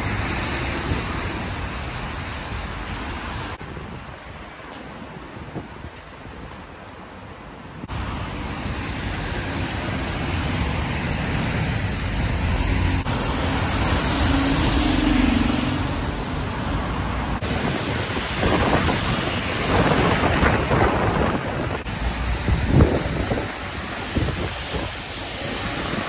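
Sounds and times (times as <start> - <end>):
tyres hissing on wet road: 0.0 - 6.4, 7.1 - 26.0
wind buffeting microphone: 0.0 - 26.0.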